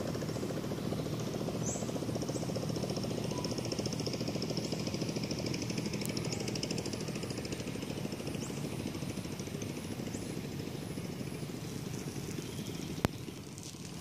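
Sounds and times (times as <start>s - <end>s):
engine chugging: 0.0s - 14.0s.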